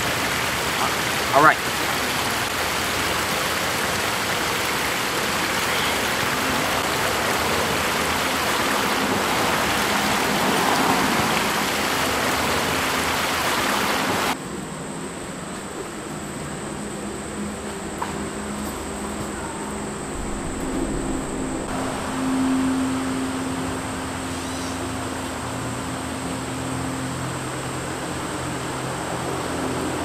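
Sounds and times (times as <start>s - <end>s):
insects droning: 0.0s - 30.0s
steady rushing noise: 0.0s - 30.0s.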